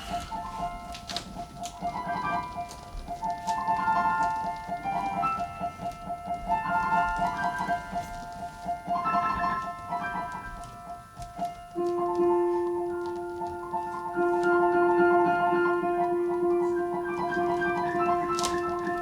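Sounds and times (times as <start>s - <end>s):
piano-sound keyboard music: 0.0s - 19.0s.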